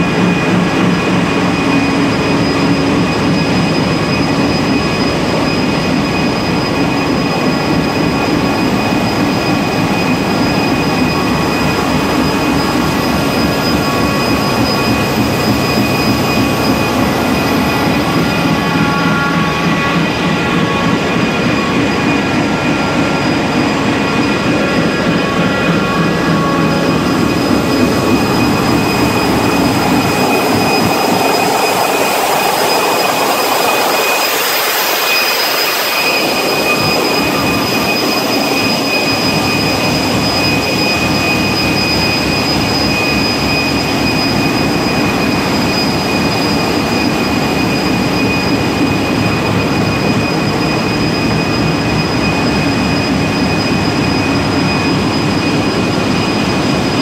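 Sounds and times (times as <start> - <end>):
engine room rumble: 0.0 - 57.0
high machinery whine: 0.0 - 57.0.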